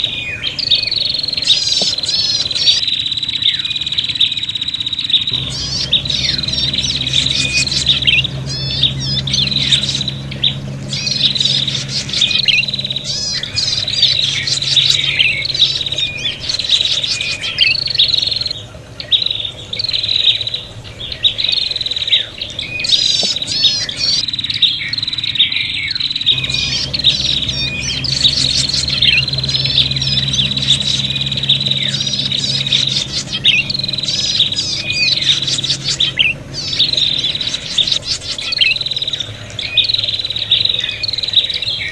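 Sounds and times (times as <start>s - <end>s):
bird chirps and trills: 0.0s - 41.9s
low hum: 0.0s - 41.9s.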